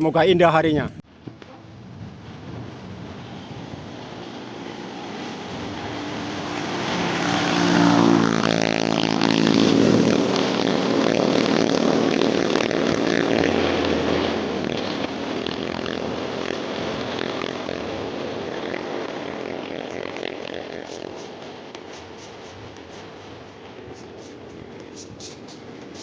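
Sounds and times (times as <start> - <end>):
small engine passing: 1.5 - 26.0.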